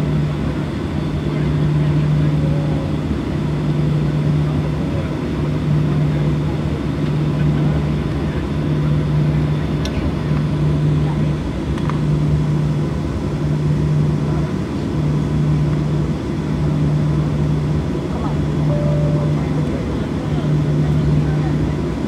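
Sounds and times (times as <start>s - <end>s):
jet engine drone in cabin: 0.0s - 22.0s.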